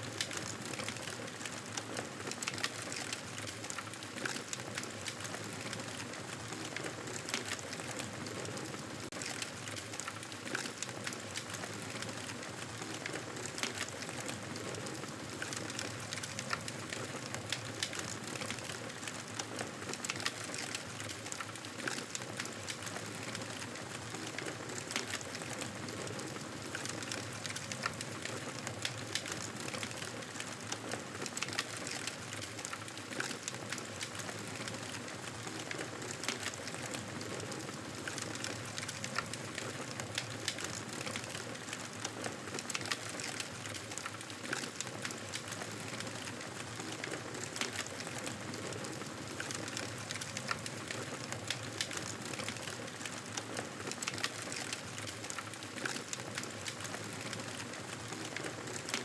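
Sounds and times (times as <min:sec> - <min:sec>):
campfire crackling: 0:09.1 - 0:59.0.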